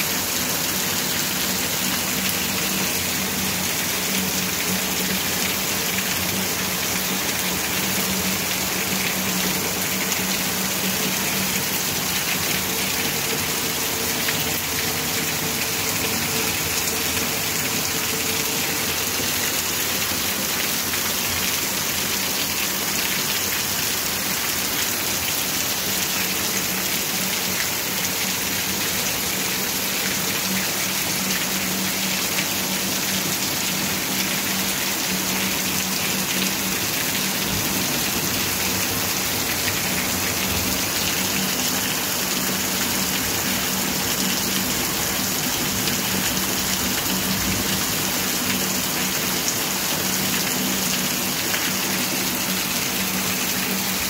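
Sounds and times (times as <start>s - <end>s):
heavy rain on concrete: 0.0s - 54.0s
rain splashing into puddles: 0.0s - 54.0s.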